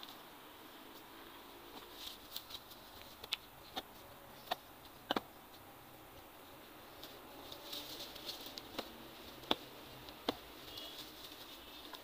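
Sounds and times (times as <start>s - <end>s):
hands rustling in dry soil: 0.0s - 12.0s.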